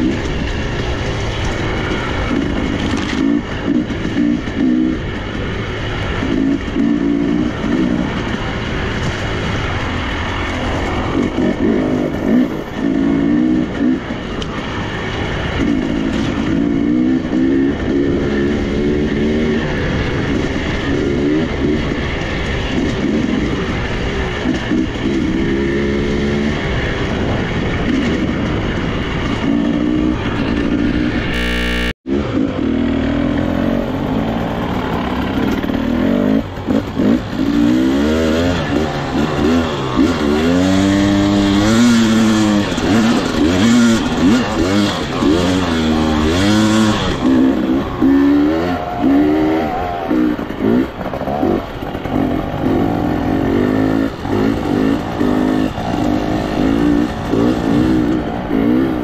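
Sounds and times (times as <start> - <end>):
wind rush: 0.0 - 31.4, 32.1 - 59.0
motorcycle engine revving: 0.0 - 59.0.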